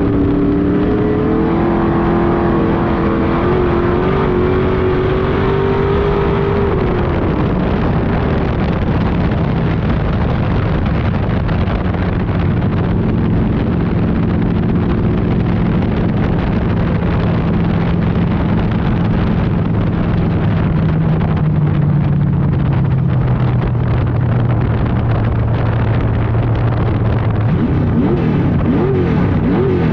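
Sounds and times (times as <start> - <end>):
race car engine rumbling: 0.0 - 29.9.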